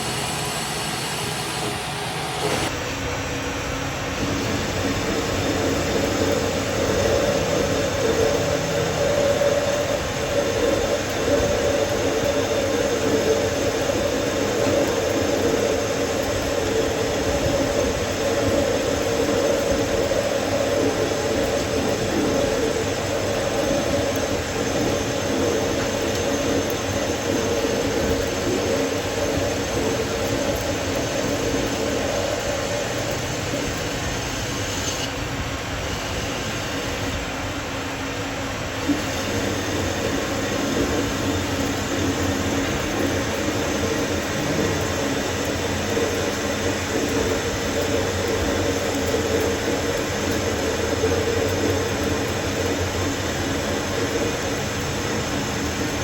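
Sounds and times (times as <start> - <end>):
workshop machine droning: 0.0 - 56.0.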